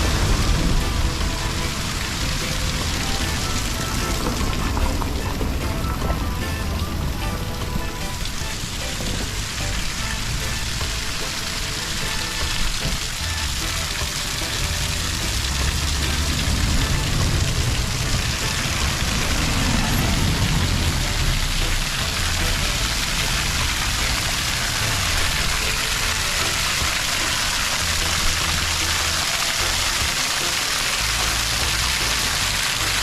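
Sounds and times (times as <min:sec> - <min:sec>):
falling water hissing: 0:00.0 - 0:33.0
music bass notes: 0:00.0 - 0:33.0.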